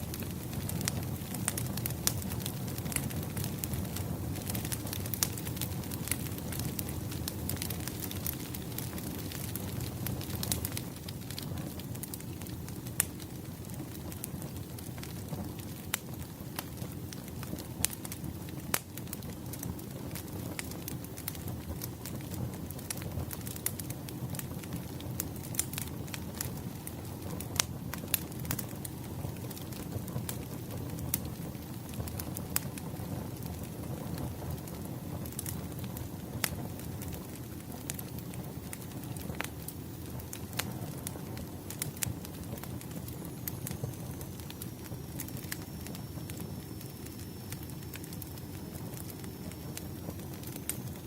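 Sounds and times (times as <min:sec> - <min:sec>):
fire crackling: 0:00.0 - 0:51.0
rush of flames: 0:00.0 - 0:51.0
firewood popping: 0:00.1 - 0:51.0.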